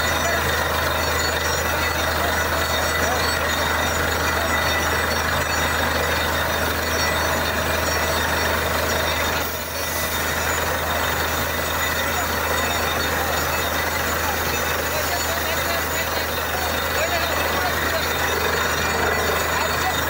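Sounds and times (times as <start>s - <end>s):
drilling rig engine drone: 0.0s - 20.0s.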